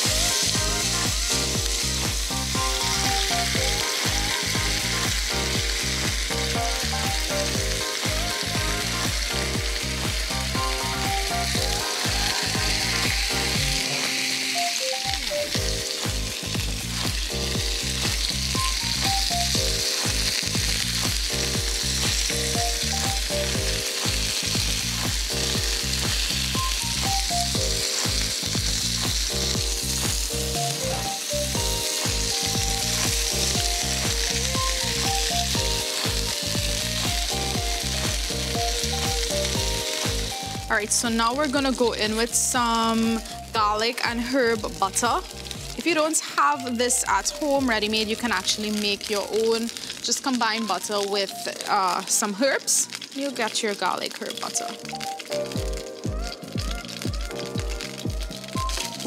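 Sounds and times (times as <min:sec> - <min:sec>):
background music with beat: 0:00.0 - 0:46.0, 0:54.5 - 0:59.0
chicken sizzling in oil: 0:00.0 - 0:59.0.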